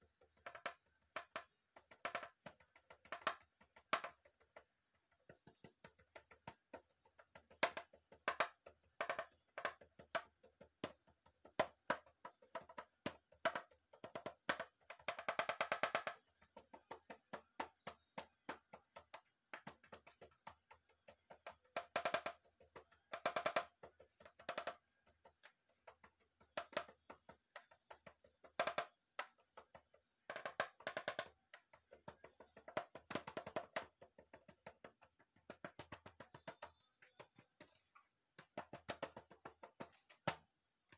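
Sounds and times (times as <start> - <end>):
plastic ball tapped by hand: 0.0 - 40.9.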